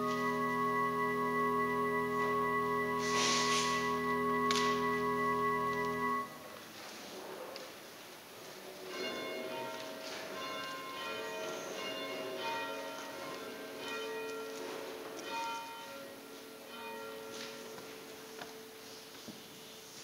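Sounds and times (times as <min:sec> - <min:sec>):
church bells ringing: 0:00.0 - 0:06.4, 0:08.8 - 0:19.2.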